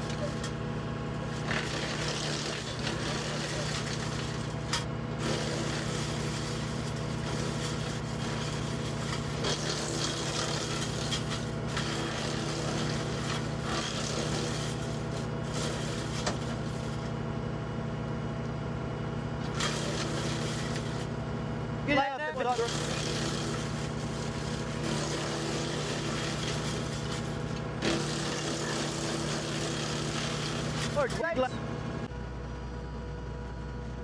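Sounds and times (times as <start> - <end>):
branches going through chipper: 0.0 - 18.1, 19.3 - 32.1
wood chipper droning: 0.0 - 34.0.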